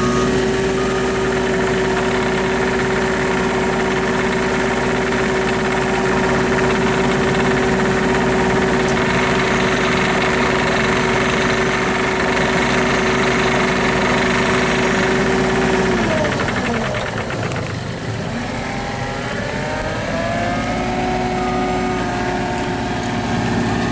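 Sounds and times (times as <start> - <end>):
mini excavator diesel engine running: 0.0 - 23.9.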